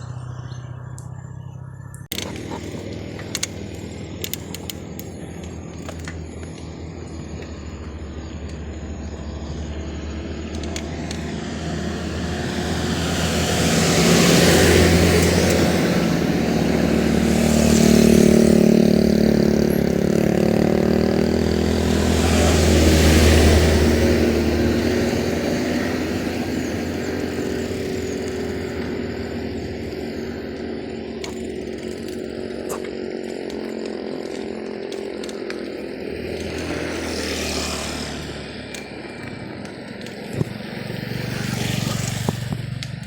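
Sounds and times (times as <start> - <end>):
small petrol engine revving: 0.0 - 43.0.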